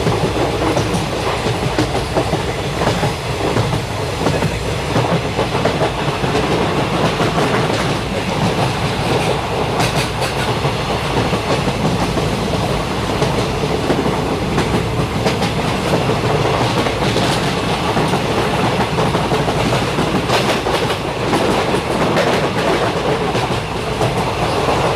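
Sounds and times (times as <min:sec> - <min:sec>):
train rumbling on rails: 0:00.0 - 0:24.9.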